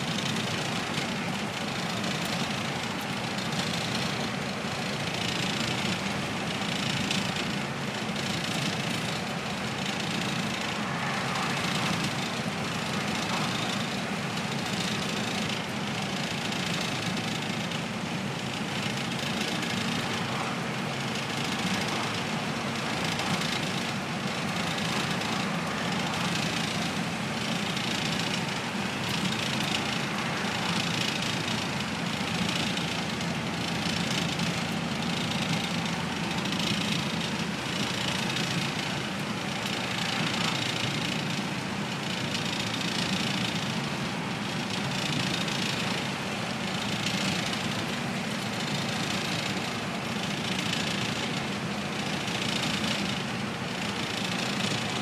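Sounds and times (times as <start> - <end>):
bus diesel engine droning: 0.0 - 55.0
road and wind rush: 0.0 - 55.0.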